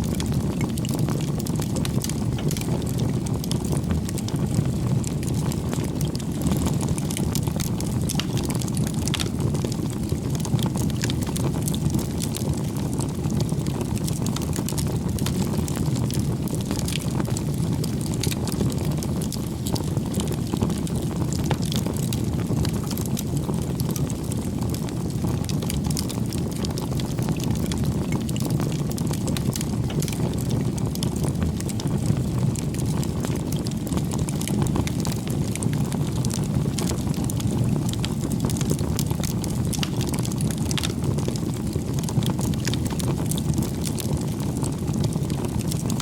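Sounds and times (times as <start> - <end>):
bonfire crackling: 0.0 - 46.0.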